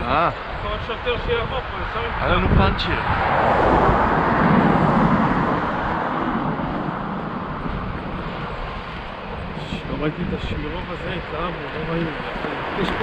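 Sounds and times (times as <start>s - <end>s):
motorcycle road noise: 0.0s - 13.0s
rushing wind: 0.0s - 13.0s.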